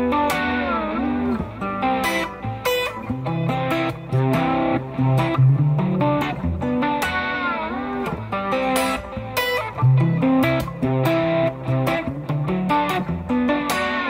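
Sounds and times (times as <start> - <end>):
electric guitar picked notes: 0.0 - 14.0.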